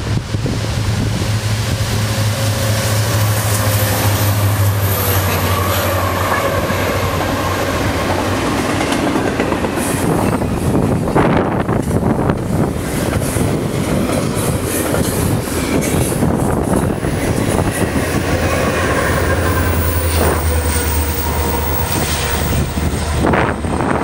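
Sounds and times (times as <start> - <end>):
freight cars rumbling on rails: 0.0 - 24.0
locomotive engine hum: 0.0 - 24.0.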